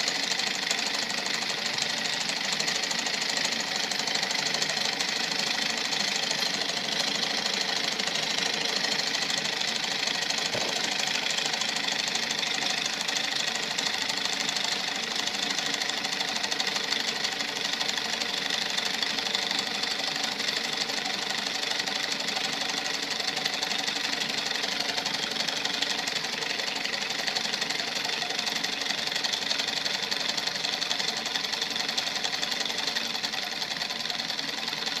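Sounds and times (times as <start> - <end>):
small steam engine clattering: 0.0 - 35.0.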